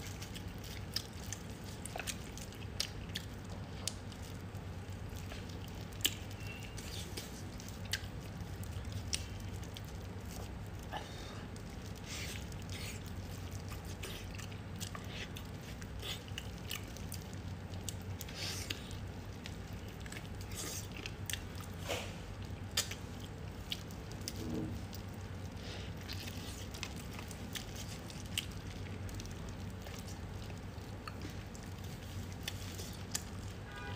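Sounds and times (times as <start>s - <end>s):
wet chewing smacks and clicks: 0.0s - 33.6s.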